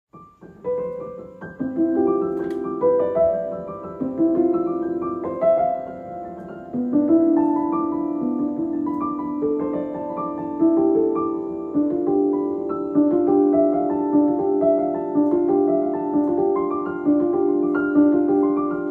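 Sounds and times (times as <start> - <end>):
slow piano melody: 0.1 - 18.9.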